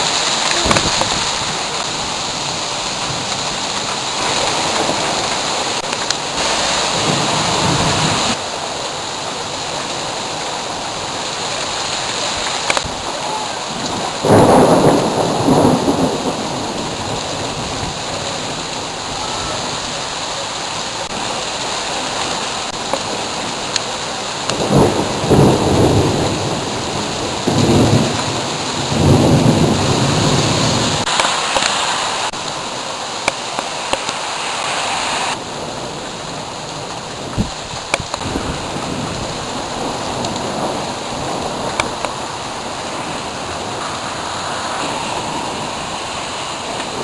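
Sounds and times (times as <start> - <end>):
thunder rumbling: 0.0 - 32.4, 35.3 - 47.0
steady rain falling: 0.0 - 47.0.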